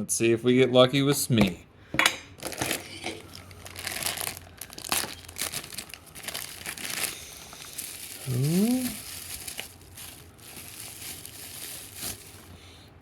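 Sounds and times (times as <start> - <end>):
packaging crinkling and tearing: 2.4 - 12.8.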